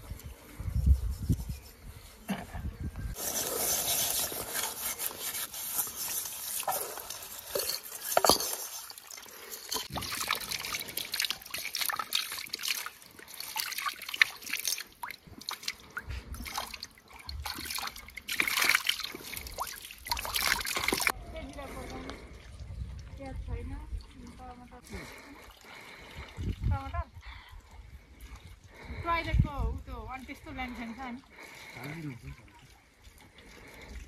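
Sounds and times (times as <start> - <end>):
water trickling and splashing: 3.1 - 34.0.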